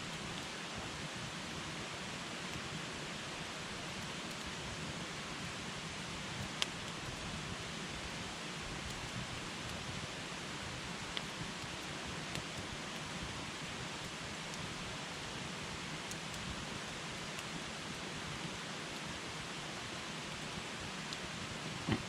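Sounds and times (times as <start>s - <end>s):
campfire hissing: 0.0s - 22.0s
burning wood crackling: 0.2s - 22.0s.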